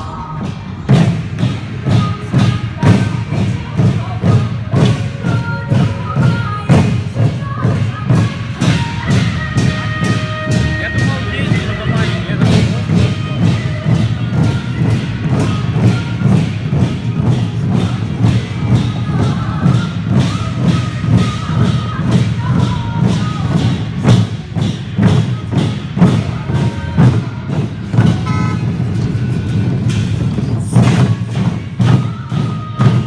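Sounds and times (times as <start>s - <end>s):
fast drumming: 0.0s - 33.0s.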